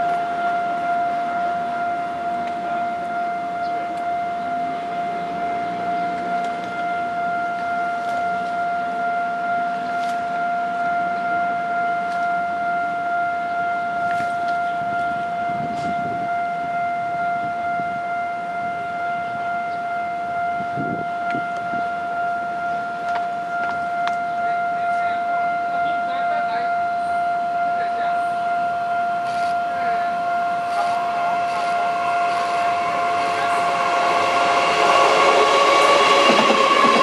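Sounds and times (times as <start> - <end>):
level-crossing warning alarm: 0.0 - 37.0.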